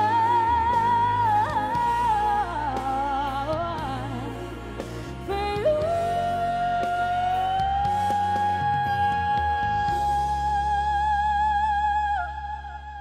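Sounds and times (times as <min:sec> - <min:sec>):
band accompaniment: 0:00.0 - 0:10.7
person singing: 0:00.0 - 0:13.0.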